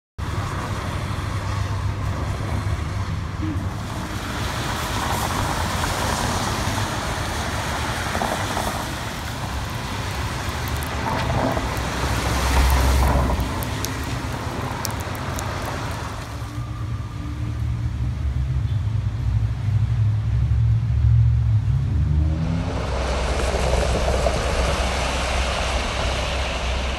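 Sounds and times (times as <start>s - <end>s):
tyres hissing on wet road: 0.2s - 17.8s, 22.0s - 26.9s
heavy vehicle rumbling past: 0.2s - 26.9s.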